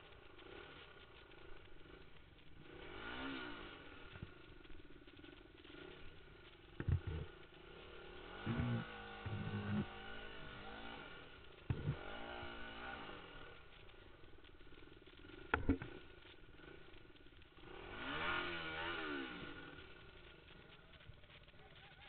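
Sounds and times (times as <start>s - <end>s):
trail bike engine revving: 0.0s - 22.0s.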